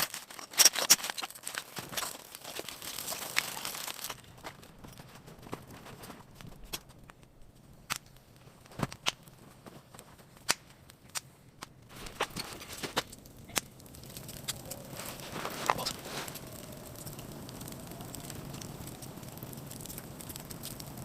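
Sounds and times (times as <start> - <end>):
rustling noise: 0.0 - 21.0.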